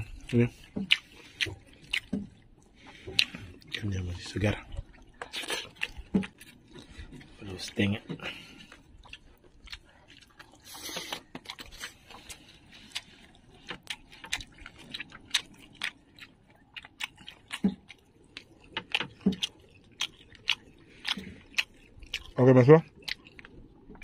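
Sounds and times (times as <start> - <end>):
chewing and mouth smacking: 0.0 - 24.0.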